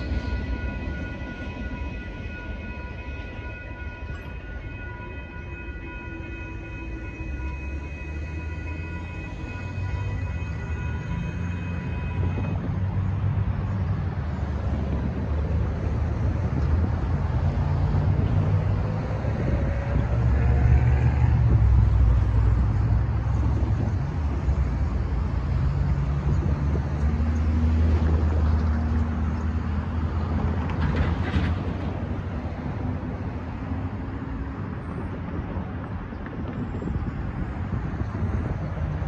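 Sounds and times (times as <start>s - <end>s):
vehicles driving past: 0.0s - 39.0s.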